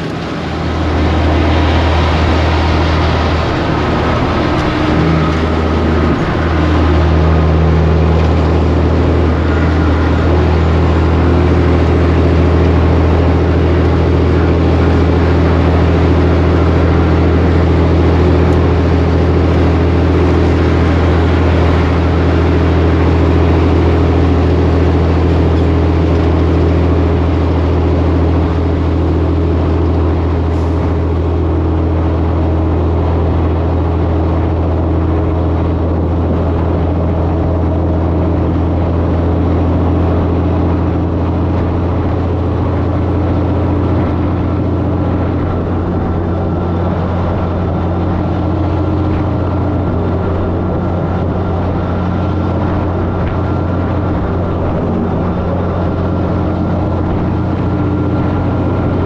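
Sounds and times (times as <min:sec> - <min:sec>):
diesel truck engine droning: 0:00.0 - 0:59.0
road noise: 0:00.0 - 0:59.0.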